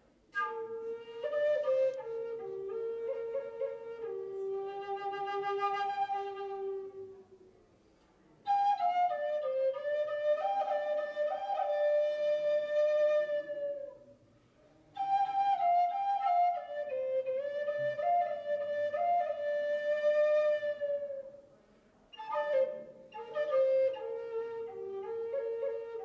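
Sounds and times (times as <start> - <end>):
flute playing slow phrases: 0.3 - 7.3, 8.5 - 14.1, 15.0 - 21.4, 22.2 - 26.0.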